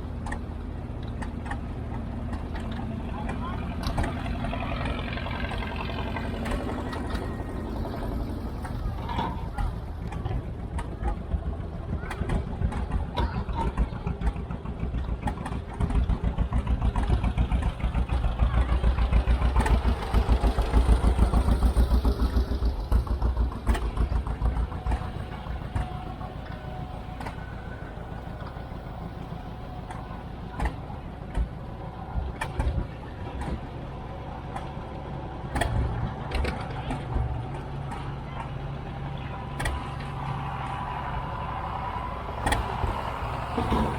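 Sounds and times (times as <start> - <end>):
tractor engine pulsing: 0.0 - 43.9.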